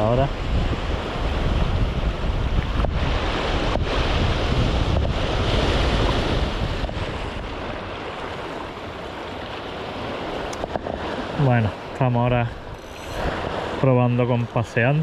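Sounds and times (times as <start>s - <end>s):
waves washing over rocks: 0.0s - 15.0s
wind buffeting microphone: 0.0s - 15.0s.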